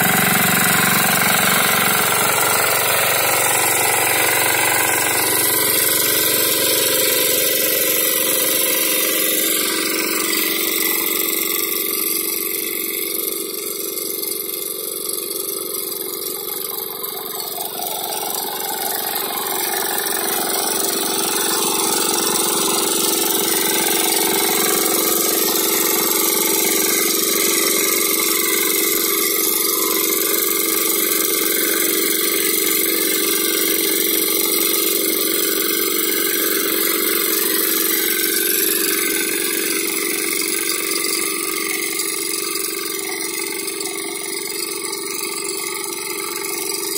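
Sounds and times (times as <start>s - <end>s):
rotary tiller churning soil: 0.0s - 46.9s
tractor engine running: 0.0s - 46.9s.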